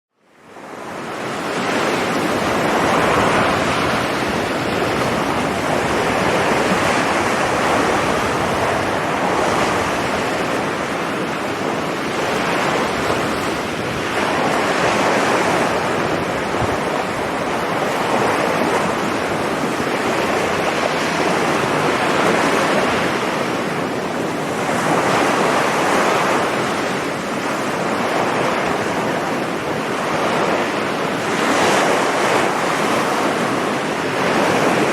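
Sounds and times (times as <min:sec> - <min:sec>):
waves breaking on beach: 0:00.2 - 0:34.9
wind buffeting microphone: 0:00.4 - 0:34.9.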